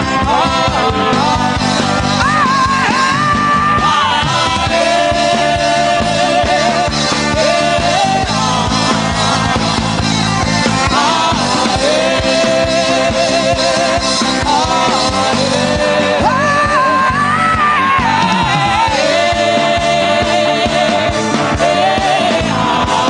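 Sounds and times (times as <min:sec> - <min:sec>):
worship band music: 0:00.0 - 0:23.0.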